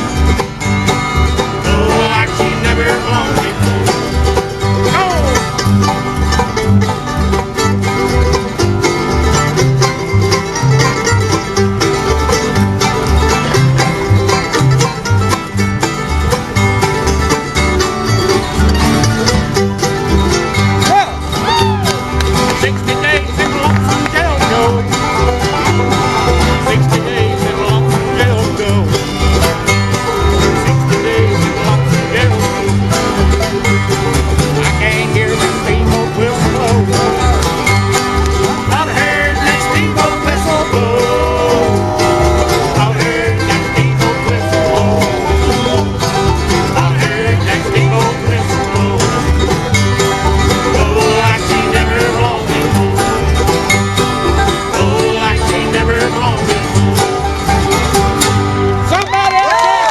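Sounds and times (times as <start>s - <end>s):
banjo: 0.0s - 59.8s
bluegrass band playing: 0.0s - 59.9s.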